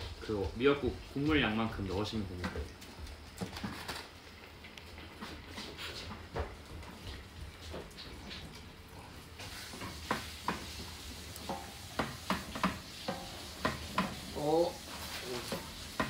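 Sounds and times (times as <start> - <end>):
wooden spoon stirring soup: 0.0 - 16.0.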